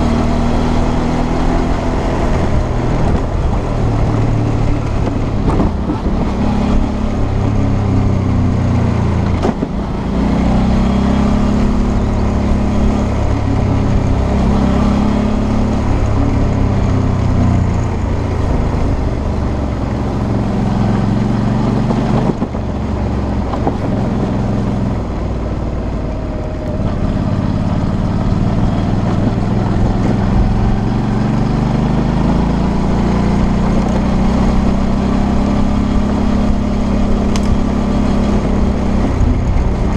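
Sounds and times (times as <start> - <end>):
gravel noise: 0.0 - 39.9
motorcycle engine running: 0.0 - 39.9.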